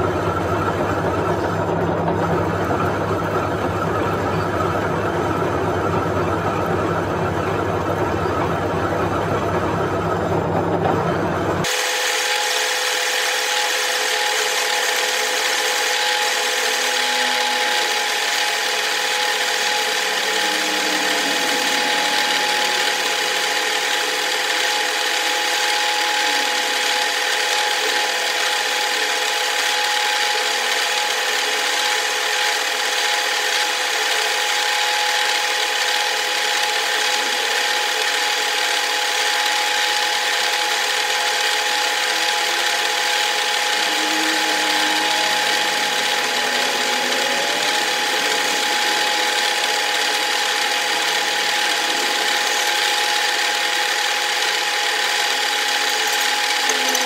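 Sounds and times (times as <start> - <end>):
metal lathe gear whine: 0.0 - 57.0.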